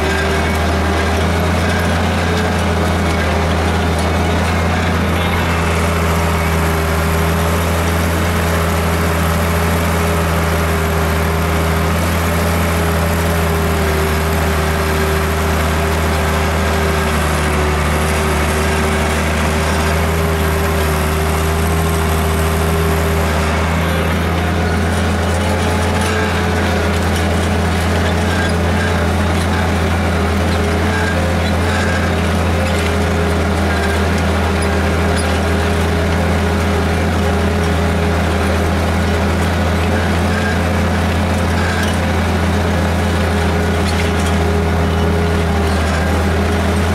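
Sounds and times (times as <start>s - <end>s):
tractor engine under load: 0.0s - 46.9s.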